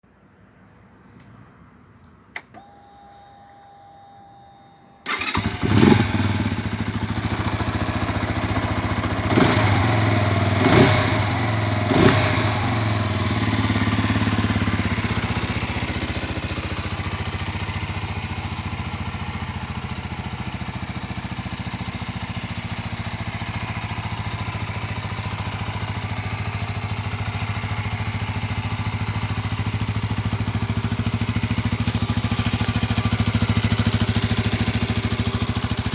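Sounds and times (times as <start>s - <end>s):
motorcycle engine revving and idling: 5.1s - 35.9s.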